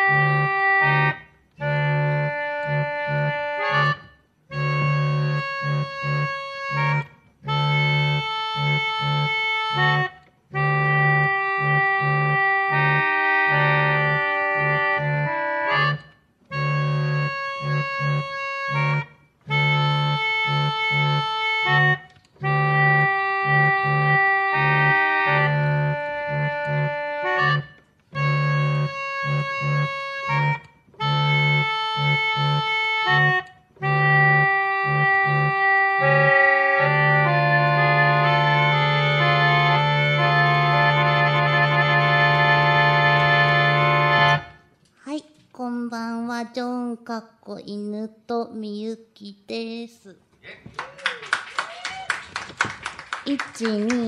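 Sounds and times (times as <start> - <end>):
organ playing slow chords: 0.0 - 44.8.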